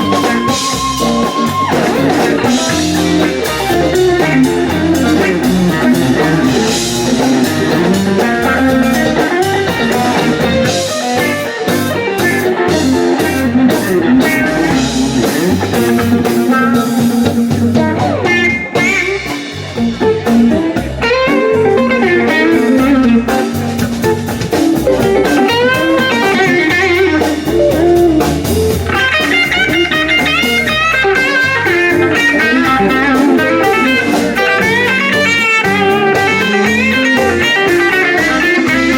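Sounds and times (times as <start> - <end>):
bass: 0.0 - 38.9
drums: 0.0 - 38.9
electric guitar lead lines: 0.0 - 38.9.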